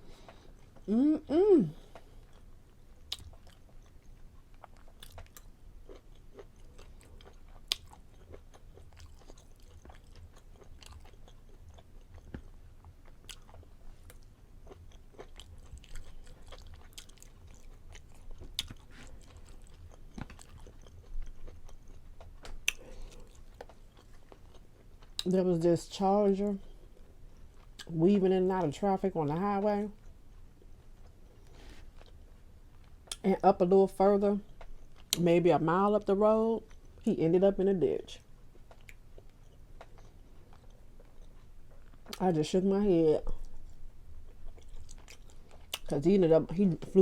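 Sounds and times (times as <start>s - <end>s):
person chewing food: 0.0s - 25.3s, 26.6s - 27.9s, 30.0s - 33.2s, 34.4s - 35.2s, 36.6s - 37.1s, 38.2s - 42.2s, 43.3s - 45.9s.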